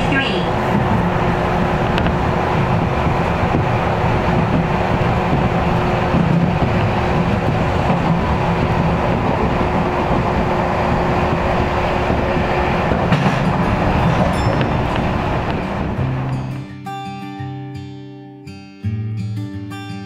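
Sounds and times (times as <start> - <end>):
train hum: 0.0 - 16.7
train wheels rumbling on rail: 0.0 - 16.7.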